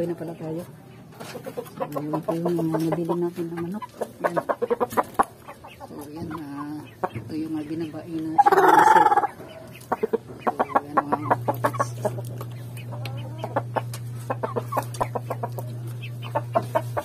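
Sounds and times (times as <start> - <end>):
chickens clucking: 0.0 - 17.0
steady low hum: 0.0 - 17.0.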